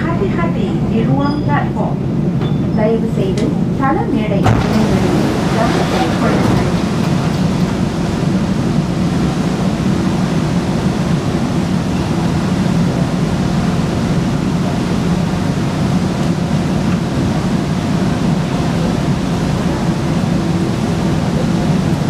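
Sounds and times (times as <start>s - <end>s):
train ventilation hum: 0.0s - 22.0s.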